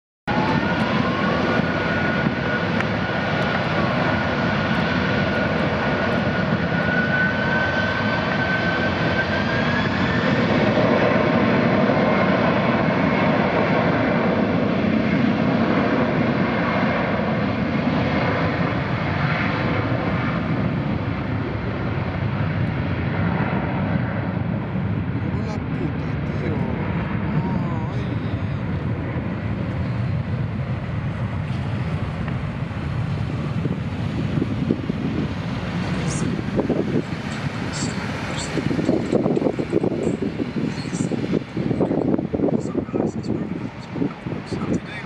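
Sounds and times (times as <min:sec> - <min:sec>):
jet engines roaring at takeoff: 0:00.3 - 0:45.0.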